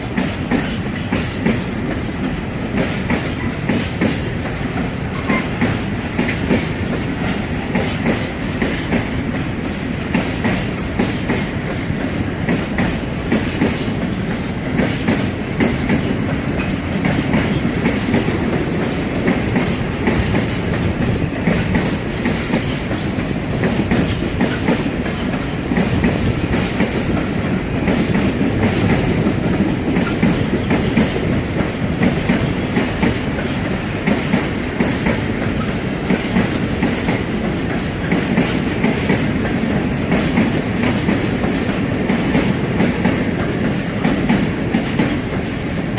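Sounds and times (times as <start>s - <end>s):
railway wagons rolling past: 0.0s - 45.9s.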